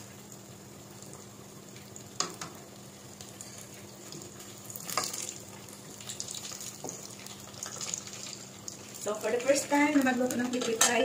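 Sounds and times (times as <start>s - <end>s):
eggs deep-frying in oil: 0.0s - 11.0s.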